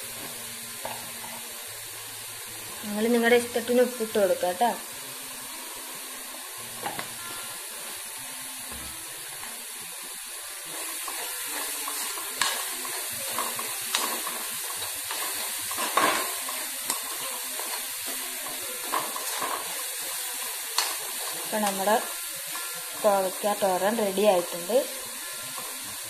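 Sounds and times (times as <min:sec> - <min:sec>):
stir-fry sizzling in a wok: 0:00.0 - 0:26.0.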